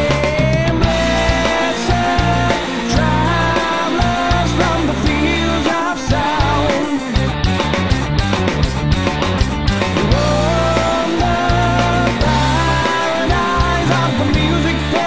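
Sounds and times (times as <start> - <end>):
man singing: 0.0 - 7.3, 10.0 - 15.0
rock band playing: 0.0 - 15.0.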